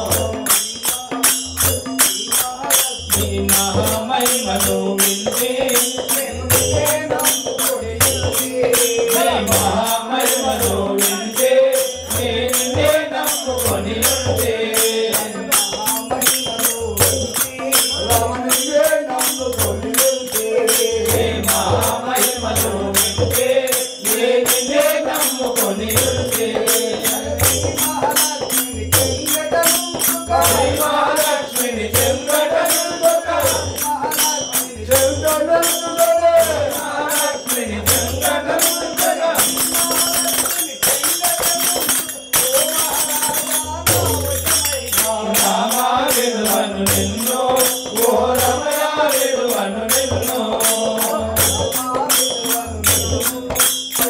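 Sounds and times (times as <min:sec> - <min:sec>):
group singing devotional song: 0:00.0 - 0:54.0
hand cymbals striking: 0:00.0 - 0:54.0
tabla: 0:00.0 - 0:54.0.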